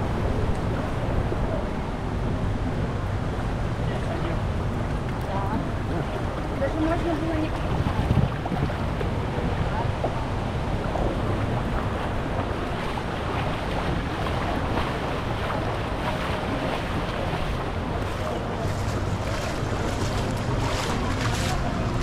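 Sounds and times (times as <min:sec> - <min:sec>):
water rushing and splashing: 0:00.0 - 0:22.0
wind buffeting microphone: 0:00.0 - 0:22.0.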